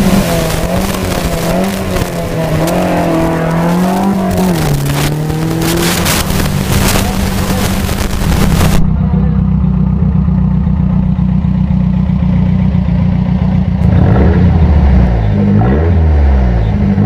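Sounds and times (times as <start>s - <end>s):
race vehicle engine revving: 0.0s - 17.0s.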